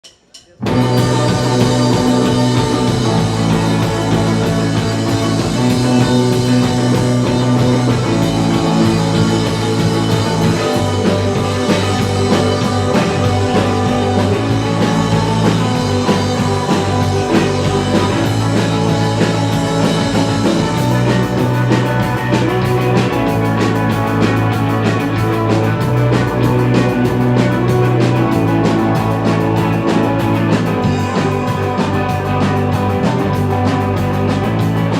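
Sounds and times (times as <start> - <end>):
rock band music: 0.0 - 34.9.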